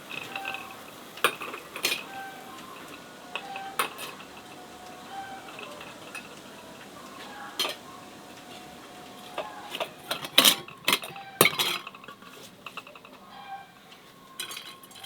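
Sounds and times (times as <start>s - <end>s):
utensils and dishes clinking: 0.0s - 15.0s.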